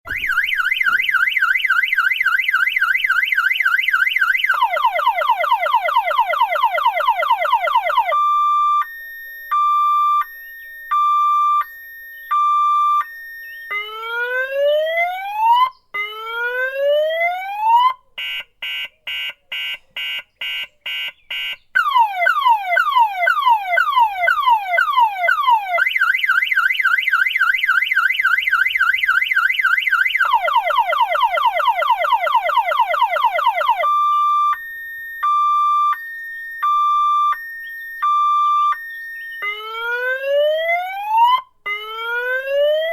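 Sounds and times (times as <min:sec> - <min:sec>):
car alarm siren: 0:00.0 - 0:42.9.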